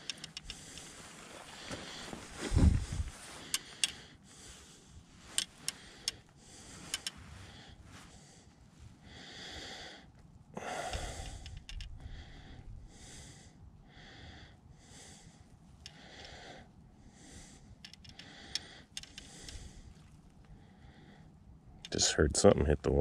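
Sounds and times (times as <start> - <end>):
person breathing: 0.0 - 21.5.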